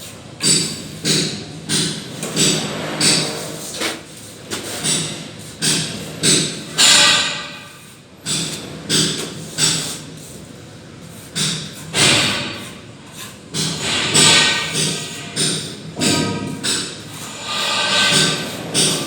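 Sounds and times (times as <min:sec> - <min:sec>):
trowel scraping mortar on wall: 0:02.1 - 0:19.0.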